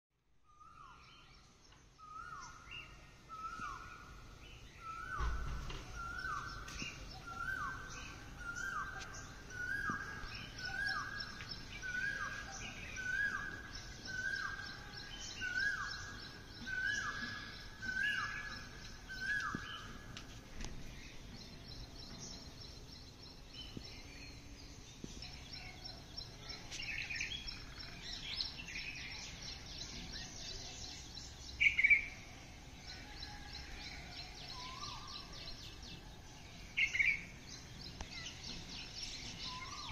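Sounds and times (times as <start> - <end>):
small birds chirping: 0.4 - 39.9.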